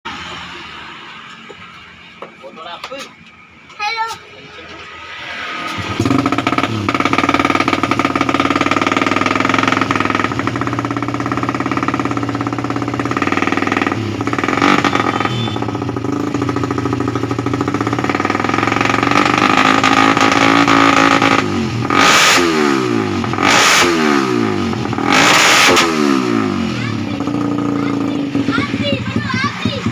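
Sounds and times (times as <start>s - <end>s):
motorcycle engine revving: 4.6s - 29.9s.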